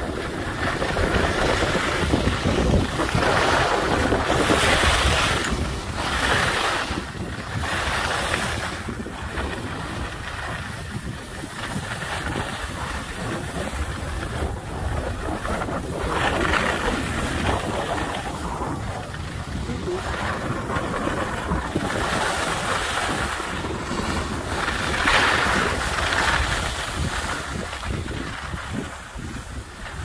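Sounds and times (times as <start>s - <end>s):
wind buffeting microphone: 0.0s - 30.0s
edges scraping over snow: 0.3s - 30.0s.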